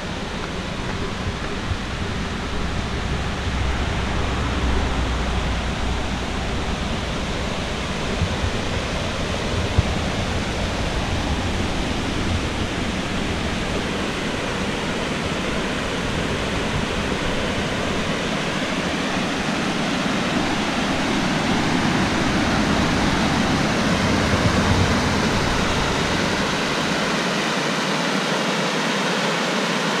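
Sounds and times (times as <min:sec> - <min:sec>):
water rushing over a dam: 0:00.0 - 0:30.0.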